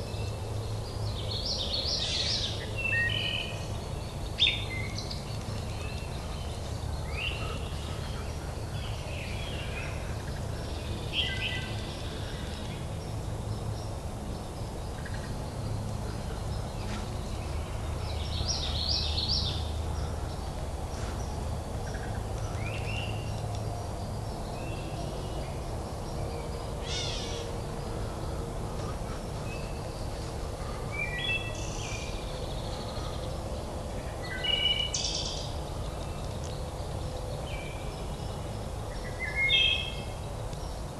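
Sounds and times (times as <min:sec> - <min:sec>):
birds chirping and trilling: 0:00.0 - 0:40.9
low background rumble: 0:00.0 - 0:40.9.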